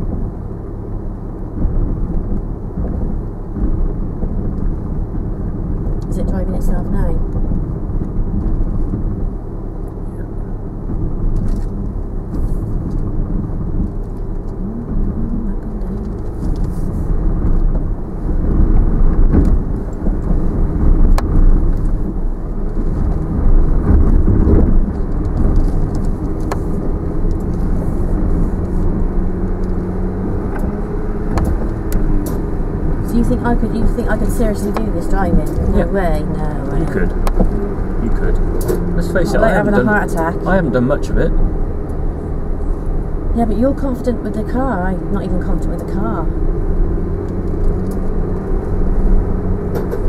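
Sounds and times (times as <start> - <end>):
low engine and drivetrain rumble: 0.0 - 50.0.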